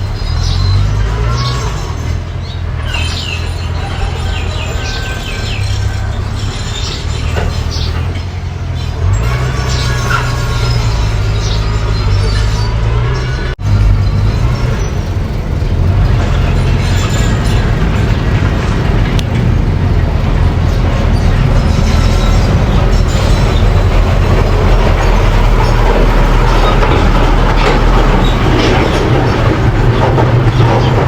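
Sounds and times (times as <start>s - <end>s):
bulldozer engine running: 0.0s - 31.0s
tracks clattering: 0.0s - 31.0s.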